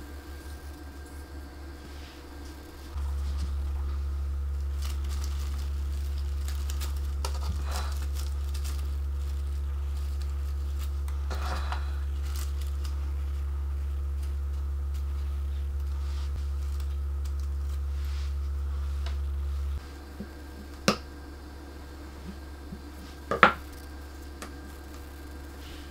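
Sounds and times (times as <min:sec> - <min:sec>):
crackly paper rustles: 0:00.0 - 0:25.9
steady low hum: 0:00.0 - 0:25.9.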